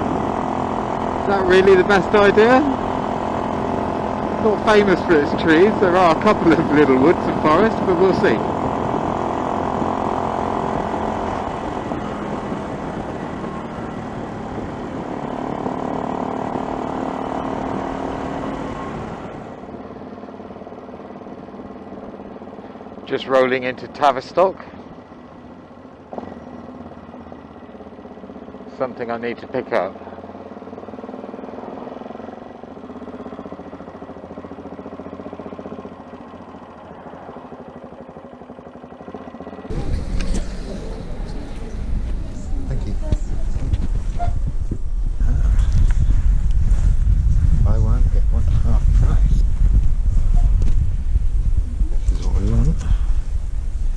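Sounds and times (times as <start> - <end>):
motorcycle engine: 0.0 - 53.9
road noise: 0.0 - 53.9.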